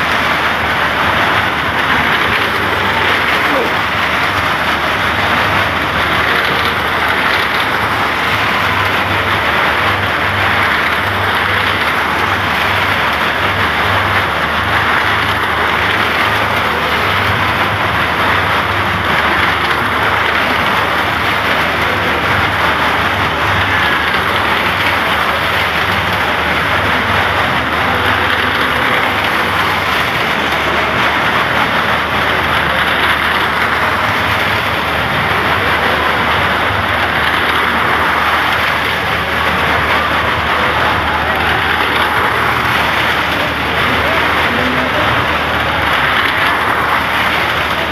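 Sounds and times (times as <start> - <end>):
car engines loud din: 0.0 - 47.9.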